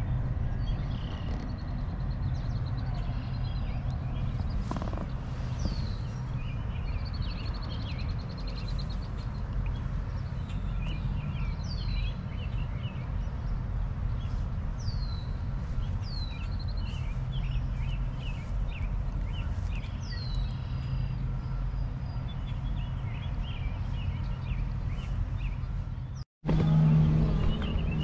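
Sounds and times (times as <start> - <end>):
songbirds calling: 0.0 - 28.0
steady low rumble: 0.0 - 28.0.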